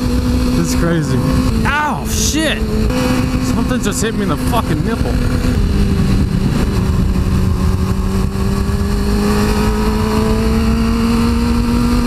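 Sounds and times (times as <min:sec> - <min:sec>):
motorcycle engine accelerating: 0:00.0 - 0:12.0
wind rushing over microphone: 0:00.0 - 0:12.0.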